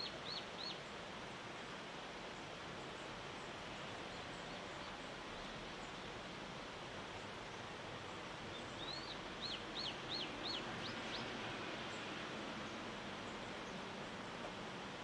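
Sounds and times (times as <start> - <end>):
outdoor background hiss: 0.0 - 15.0
songbird singing: 0.0 - 15.0.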